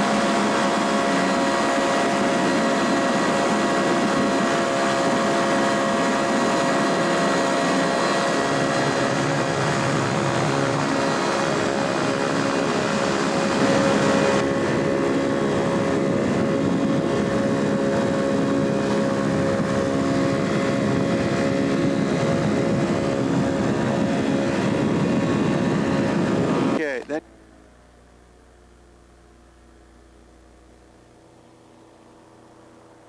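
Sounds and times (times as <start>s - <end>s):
rushing air: 0.0s - 27.0s
ultralight airplane engine drone: 0.0s - 33.0s.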